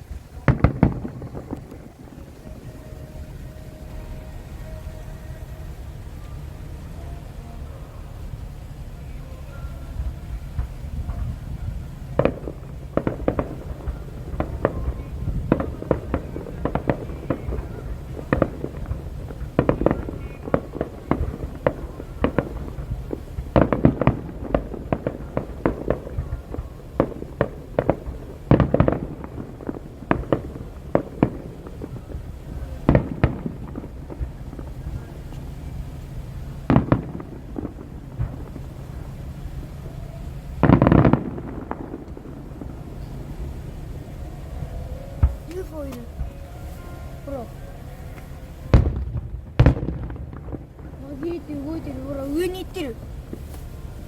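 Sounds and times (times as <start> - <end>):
fireworks bangs: 0.0 - 54.0
low background rumble: 0.0 - 54.0.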